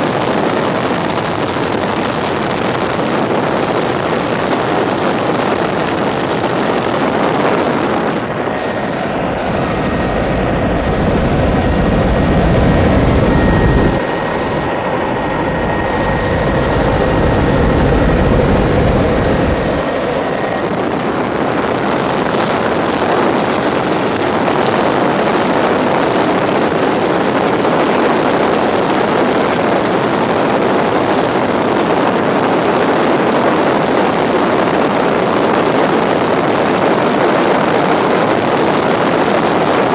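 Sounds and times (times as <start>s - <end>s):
faint high whine: 0.0s - 33.4s
helicopter engine and rotor noise: 0.0s - 39.9s.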